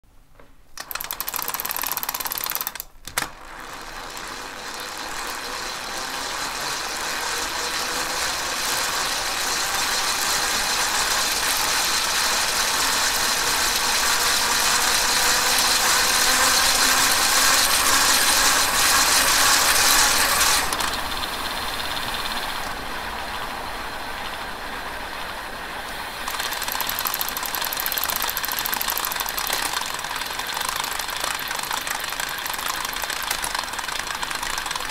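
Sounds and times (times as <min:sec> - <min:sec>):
bicycle gear hub whirring: 0:00.8 - 0:34.9.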